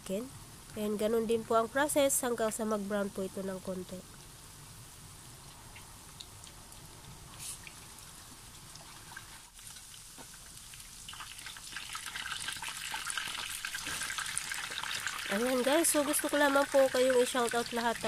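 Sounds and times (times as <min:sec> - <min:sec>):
chicken frying in hot oil: 0:00.8 - 0:18.0.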